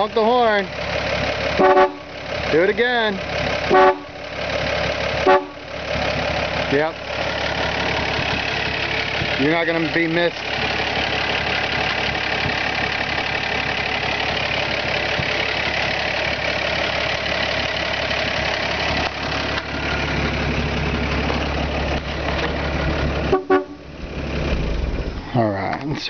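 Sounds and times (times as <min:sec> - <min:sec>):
pickup engine idling: 0:00.0 - 0:26.0.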